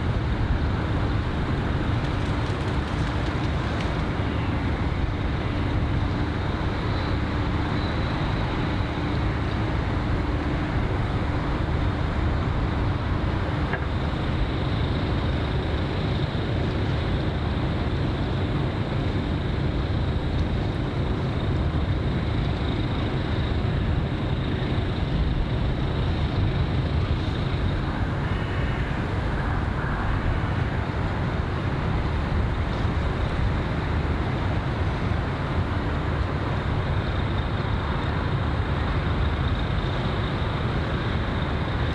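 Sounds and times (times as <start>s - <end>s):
distant traffic rumble: 0.0s - 41.9s.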